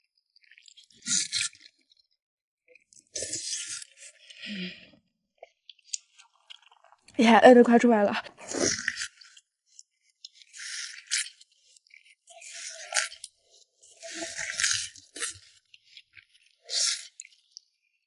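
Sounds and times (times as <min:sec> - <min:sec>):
person chewing and crunching food: 0:00.3 - 0:02.1, 0:02.7 - 0:07.1, 0:08.2 - 0:18.0.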